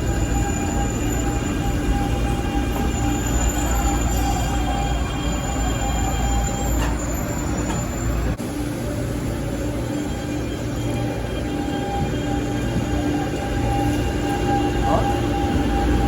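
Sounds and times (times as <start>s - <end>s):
electric train rumble: 0.0s - 16.0s
high wheel squeal: 0.0s - 16.0s.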